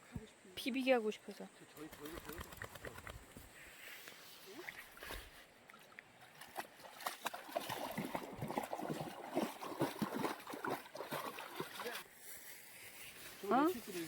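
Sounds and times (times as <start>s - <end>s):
stream water splashing and gurgling: 2.0s - 14.0s.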